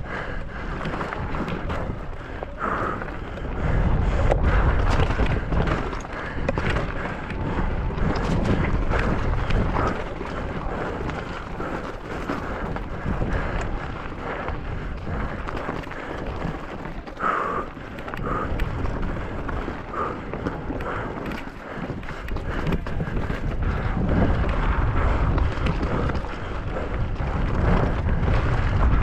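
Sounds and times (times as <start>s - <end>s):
wind buffeting microphone: 0.0s - 29.0s
bike knocks and rattles: 0.1s - 29.0s.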